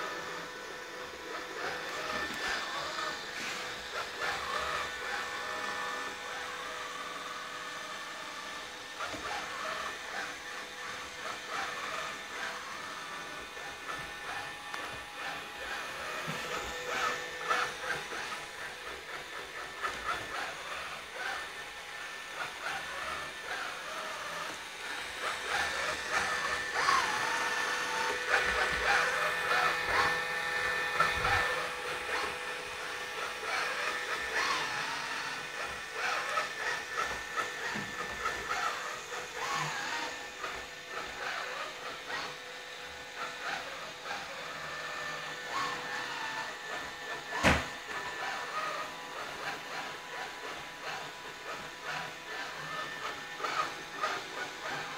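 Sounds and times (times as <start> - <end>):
robot vacuum whirring: 0.0 - 54.9.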